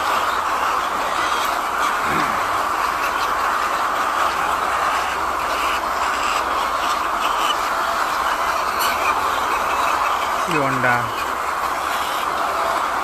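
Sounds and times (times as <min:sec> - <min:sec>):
hens clucking and squawking: 0:00.0 - 0:13.0.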